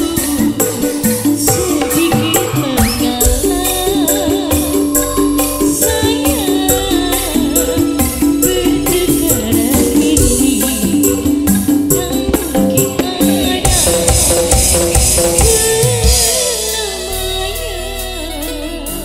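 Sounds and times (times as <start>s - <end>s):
hand drums: 0.0s - 17.0s
live band music: 0.0s - 19.0s
woman singing into a microphone: 0.0s - 19.0s.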